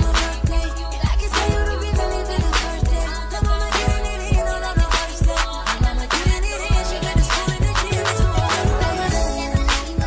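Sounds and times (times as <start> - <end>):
song with beat and deep bass: 0.0 - 10.0.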